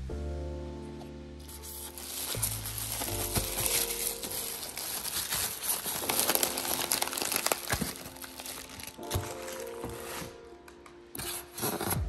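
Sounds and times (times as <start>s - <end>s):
plastic film crinkling: 1.4s - 12.0s.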